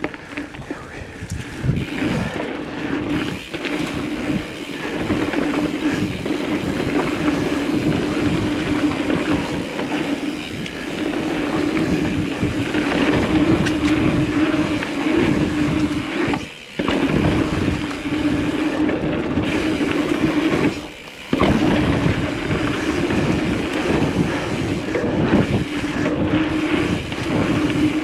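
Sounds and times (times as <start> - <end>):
bike rattling clicks: 0.0 - 28.0
bike tyre noise: 0.0 - 28.0.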